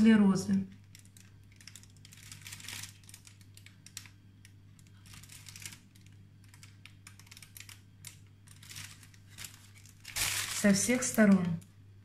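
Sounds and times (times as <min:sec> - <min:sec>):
steady low hum: 0:00.0 - 0:12.0
plastic piping bag rustling: 0:00.7 - 0:11.8.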